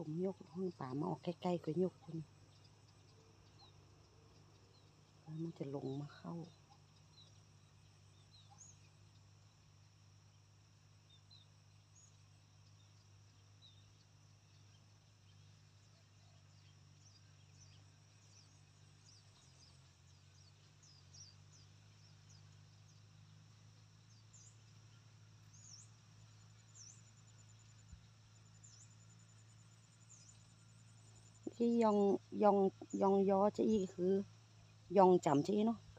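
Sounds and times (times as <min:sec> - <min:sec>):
low steady hum: 0:00.0 - 0:35.9
small birds chirping: 0:00.0 - 0:35.9.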